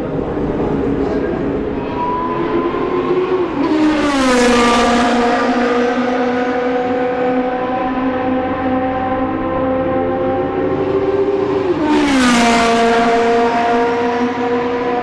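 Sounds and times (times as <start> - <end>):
race car passing at speed: 0.0 - 15.0.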